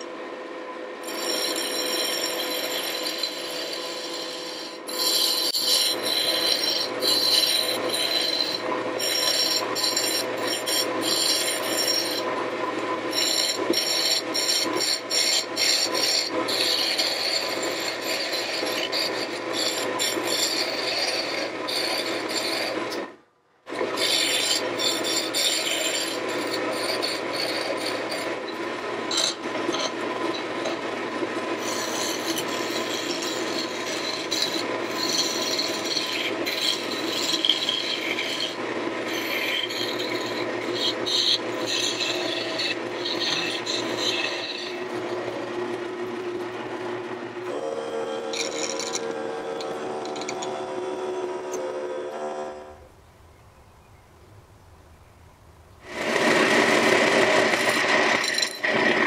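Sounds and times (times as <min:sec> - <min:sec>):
wood lathe humming: 0:00.0 - 0:52.9, 0:55.8 - 0:59.0
turning tool scraping wood: 0:01.0 - 0:52.7, 0:55.8 - 0:59.0.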